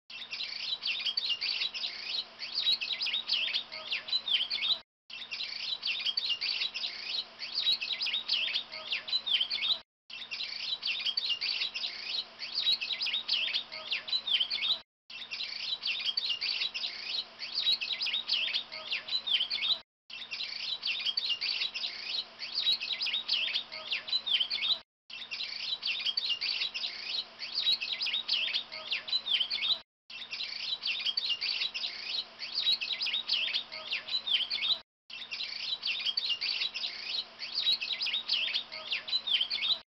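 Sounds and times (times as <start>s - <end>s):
small birds chirping: 0.1s - 39.8s.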